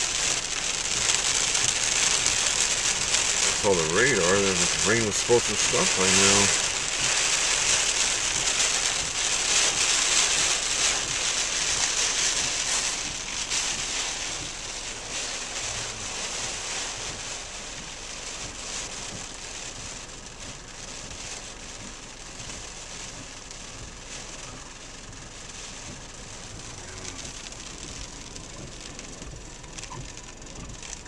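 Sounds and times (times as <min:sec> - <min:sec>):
heavy rain on car roof: 0:00.0 - 0:31.0.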